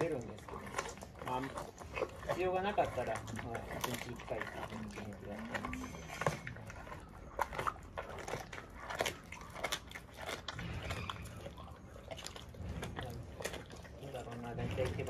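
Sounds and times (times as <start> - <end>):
lion crunching bones: 0.0 - 15.0
wet chewing: 0.0 - 15.0.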